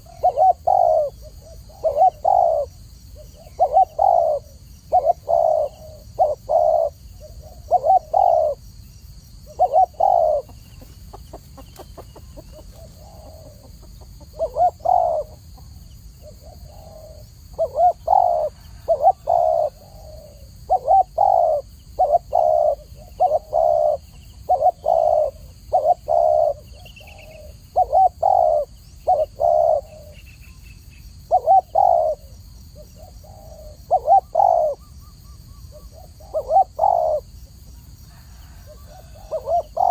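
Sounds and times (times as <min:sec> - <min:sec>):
dove cooing: 0:00.0 - 0:30.6, 0:31.2 - 0:39.9.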